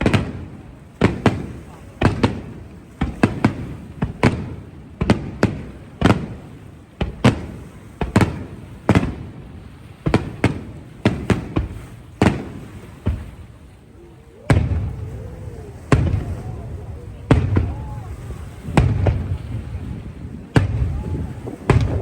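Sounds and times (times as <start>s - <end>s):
fireworks bursting with echo: 0.0s - 22.0s.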